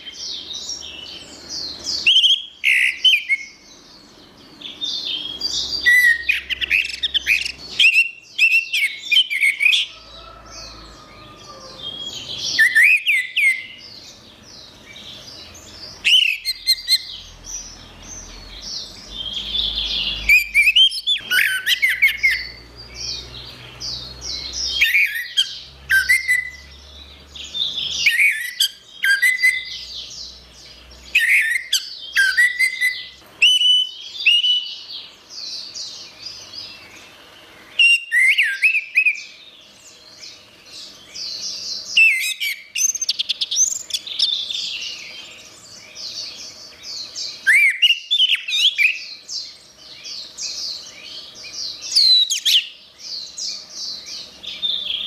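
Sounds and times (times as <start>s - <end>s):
thrush singing whistled notes: 0.0s - 55.0s.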